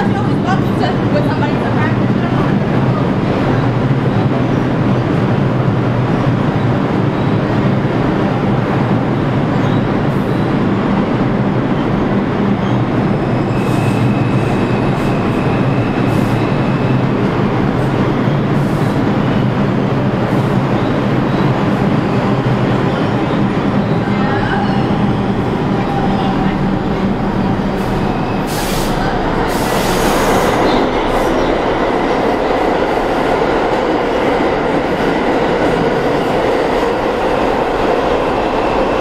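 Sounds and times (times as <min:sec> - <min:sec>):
subway train wheels rumbling: 0:00.0 - 0:39.0.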